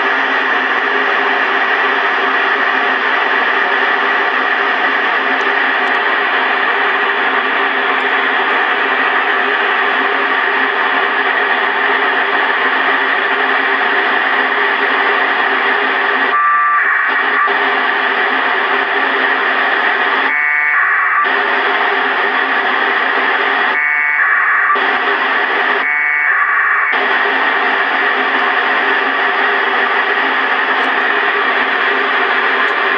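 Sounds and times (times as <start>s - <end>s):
radio static hiss: 0.0s - 32.9s.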